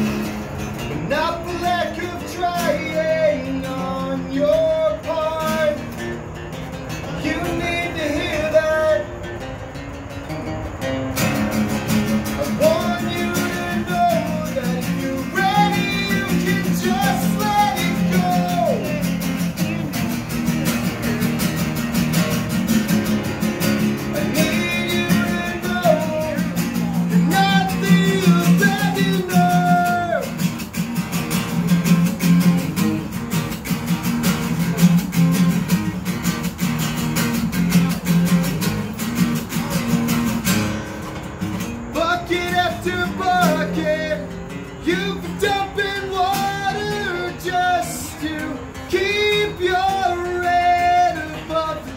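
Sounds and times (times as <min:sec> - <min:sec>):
acoustic guitar strumming: 0:00.0 - 0:51.9
guitar melody line: 0:00.0 - 0:51.9.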